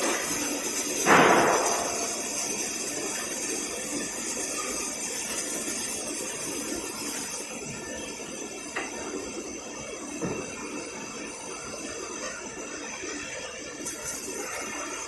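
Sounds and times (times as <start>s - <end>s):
hissing crackly machine noise: 0.0s - 15.0s.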